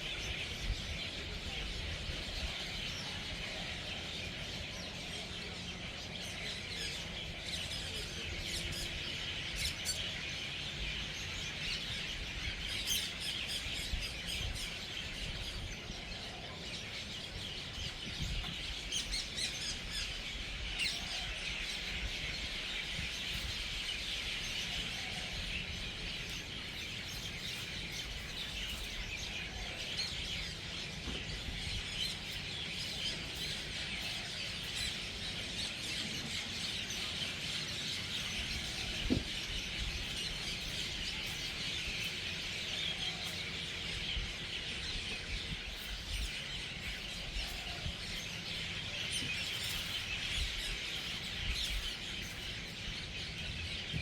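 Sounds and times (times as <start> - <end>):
flock of birds chirping: 0.0 - 54.0.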